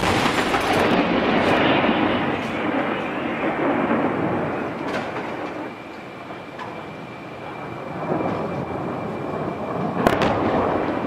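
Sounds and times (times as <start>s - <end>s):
howitzer blast rumble: 0.0s - 11.0s.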